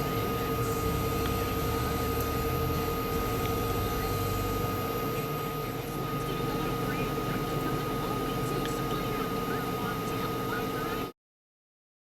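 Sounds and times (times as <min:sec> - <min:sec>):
electrical hum: 0:00.0 - 0:11.2.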